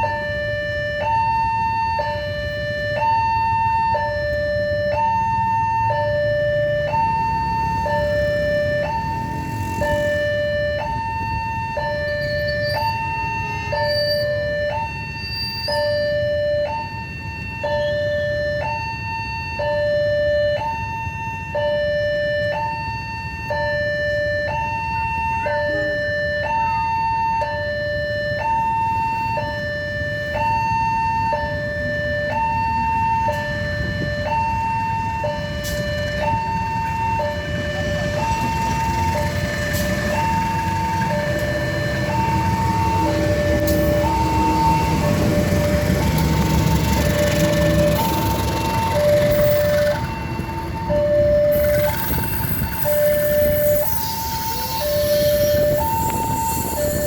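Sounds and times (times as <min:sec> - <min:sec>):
two-tone level crossing siren: 0:00.0 - 0:57.0.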